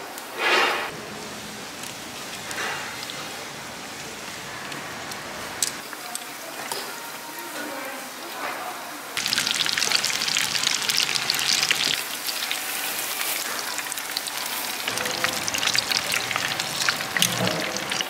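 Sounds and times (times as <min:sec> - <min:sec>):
vegetables deep-frying in oil: 0:00.9 - 0:06.8, 0:09.2 - 0:18.0.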